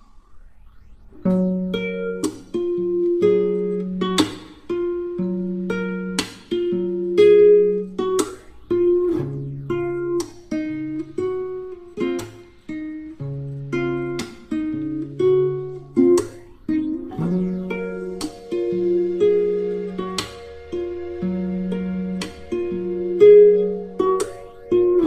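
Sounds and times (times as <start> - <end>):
gentle guitar tune: 1.2 - 25.0.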